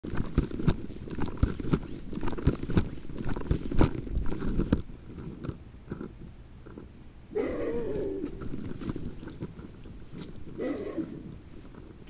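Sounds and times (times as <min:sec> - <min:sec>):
camera rubbing against clothing: 0:00.0 - 0:06.9, 0:08.1 - 0:12.0
irregular thumps: 0:00.0 - 0:07.0, 0:08.0 - 0:12.0.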